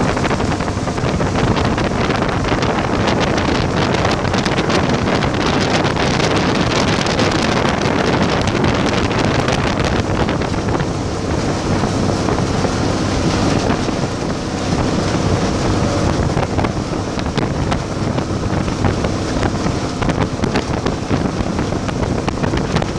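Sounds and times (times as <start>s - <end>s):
boat engine running: 0.0s - 22.9s
wind buffeting microphone: 0.0s - 22.9s.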